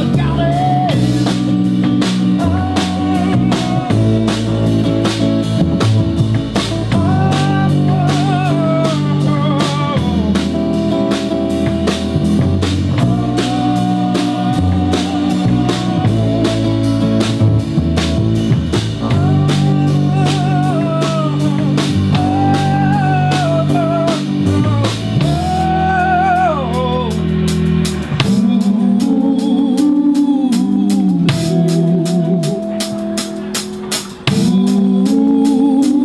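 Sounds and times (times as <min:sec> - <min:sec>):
drum kit beat: 0:00.0 - 0:36.0
live rock band playing: 0:00.0 - 0:36.0.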